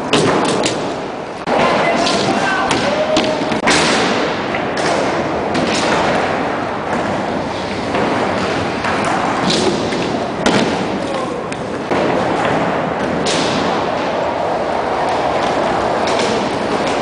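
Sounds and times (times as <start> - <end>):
skate wheels rolling on ramps: 0.0 - 17.0
skates knocking on ramps: 0.0 - 17.0.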